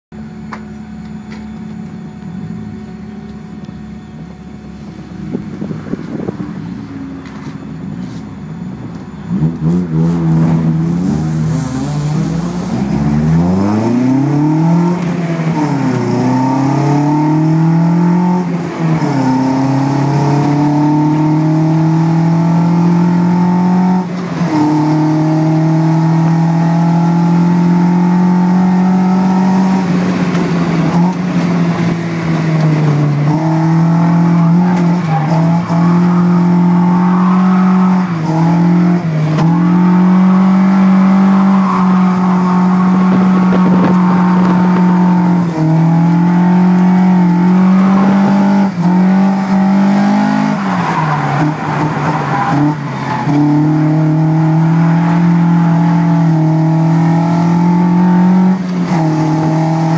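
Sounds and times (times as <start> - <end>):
car engine accelerating: 0.2 - 59.9.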